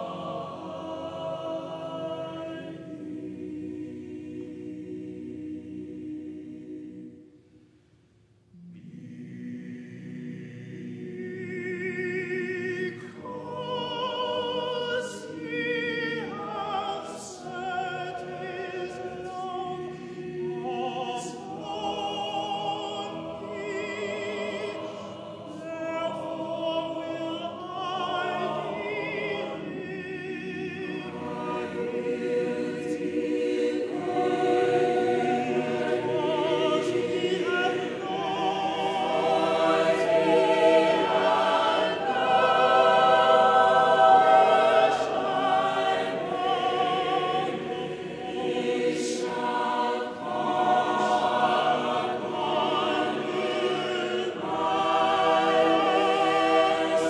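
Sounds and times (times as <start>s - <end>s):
mixed choir singing: 0.0s - 7.5s, 8.5s - 57.0s.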